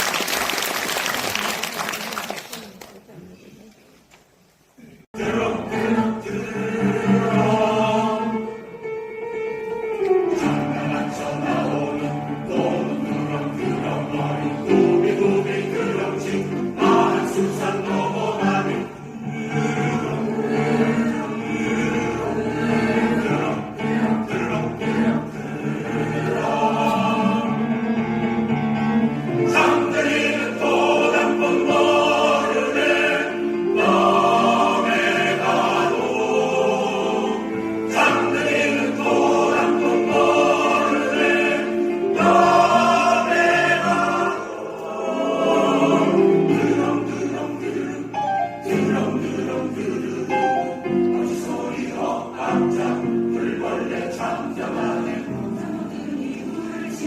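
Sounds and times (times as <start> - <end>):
choir singing in harmony: 5.1 - 57.0.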